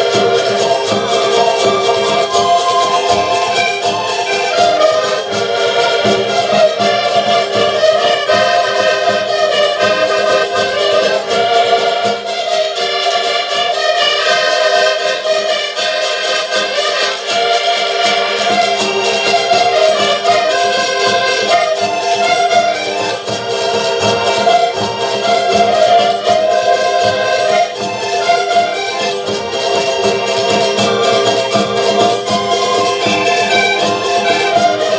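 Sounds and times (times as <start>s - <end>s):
accordions playing folk tune: 0.0s - 34.9s
small stringed instrument: 0.0s - 34.9s.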